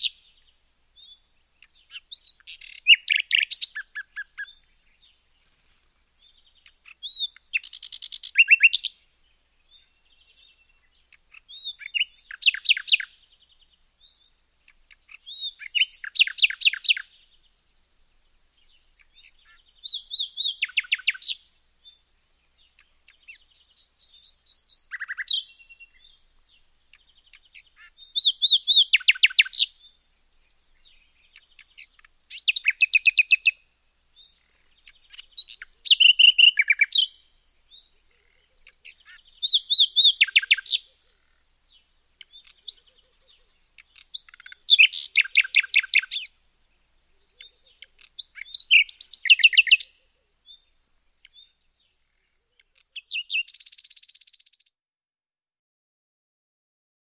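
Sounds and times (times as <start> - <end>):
songbird singing trilled notes: 0.0 - 54.8.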